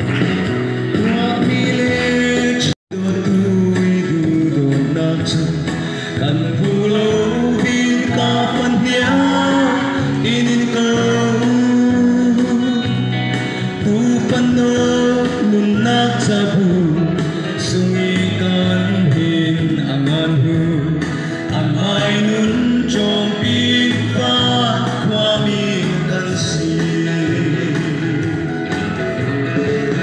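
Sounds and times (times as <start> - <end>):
backing music: 0.0 - 30.0
man singing into a microphone: 0.8 - 28.7.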